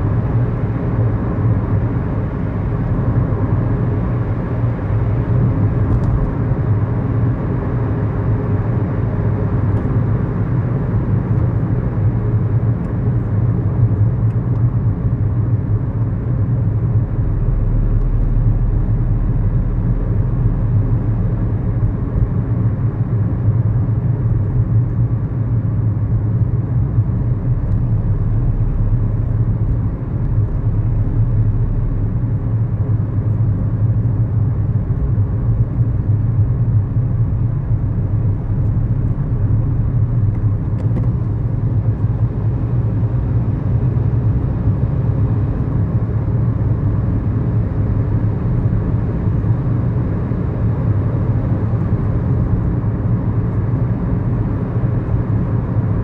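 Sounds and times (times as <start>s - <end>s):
car engine hum in cabin: 0.0s - 56.0s
road noise: 0.0s - 56.0s.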